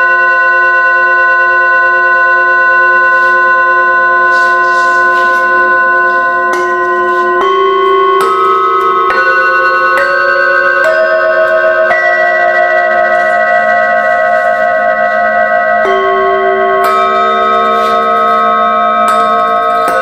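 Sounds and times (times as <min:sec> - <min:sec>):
singing bowls humming: 0:00.0 - 0:20.0
singing bowls struck with mallet: 0:00.0 - 0:20.0.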